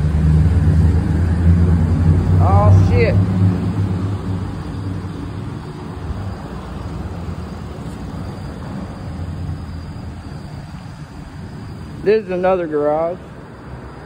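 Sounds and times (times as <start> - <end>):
bicycle tyres rolling on concrete: 0.0 - 13.6.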